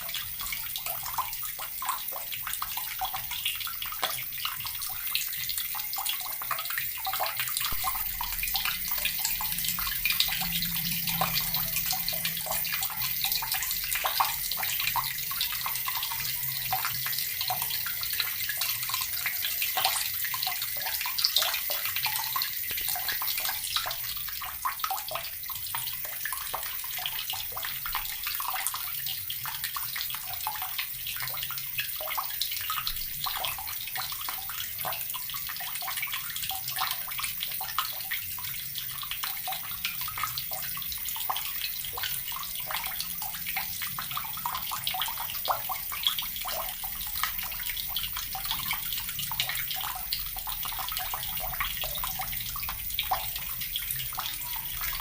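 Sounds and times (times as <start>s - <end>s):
tap water running and splashing: 0.0s - 55.0s.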